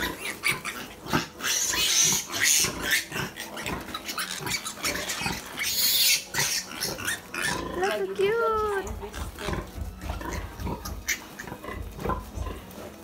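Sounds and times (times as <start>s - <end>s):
piglets squealing and grunting: 0.0s - 13.0s.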